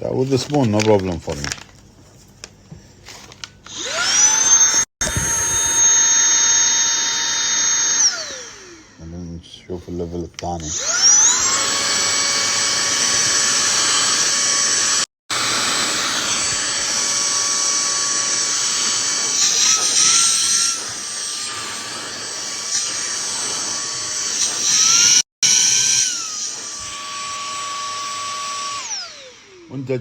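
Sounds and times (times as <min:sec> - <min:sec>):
vacuum cleaner motor whine: 0:03.7 - 0:09.3, 0:09.9 - 0:30.0.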